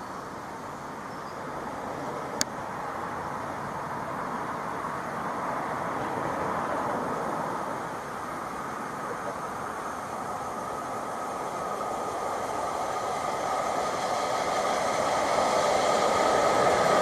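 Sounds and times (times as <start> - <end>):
train running: 0.0 - 17.0.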